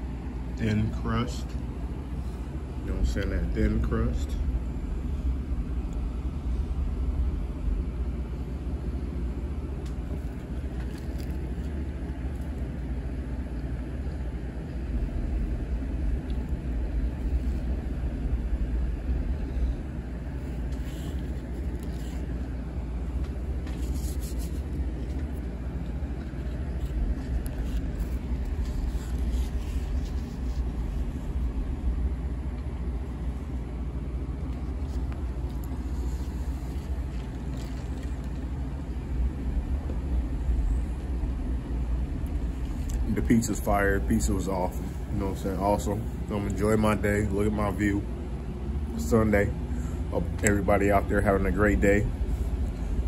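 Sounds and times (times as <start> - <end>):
low background rumble: 0.0 - 53.0.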